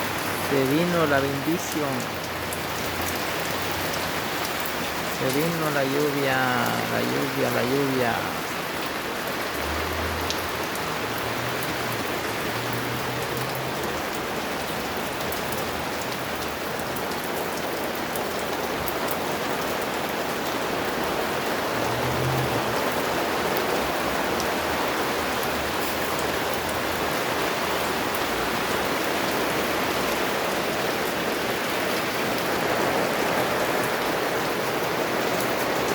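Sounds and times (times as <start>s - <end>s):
steady rain hiss: 0.0s - 35.9s
raindrops clicking nearby: 0.1s - 35.9s.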